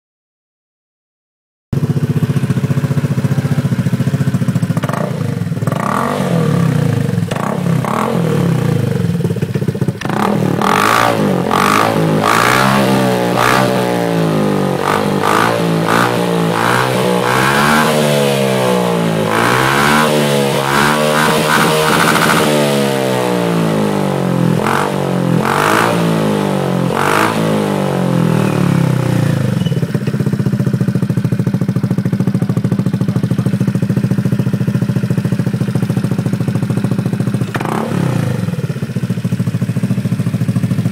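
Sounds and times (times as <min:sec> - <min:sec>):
scooter engine idling and revving: 0:01.8 - 0:40.9.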